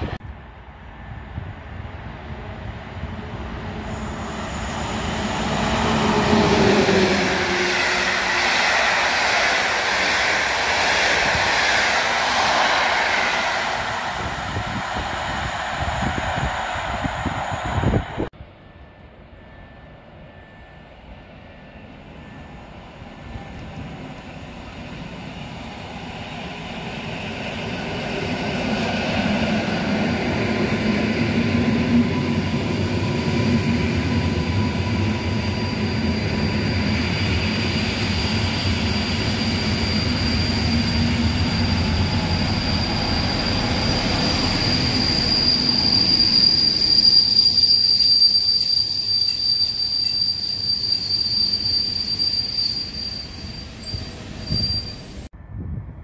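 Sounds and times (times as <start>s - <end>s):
electric train rumbling: 0.0s - 56.0s
train wheels squealing: 3.5s - 55.3s.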